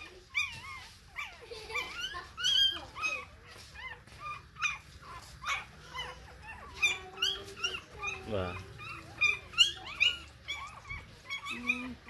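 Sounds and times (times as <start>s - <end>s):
newborn puppies whimpering: 0.0s - 12.0s.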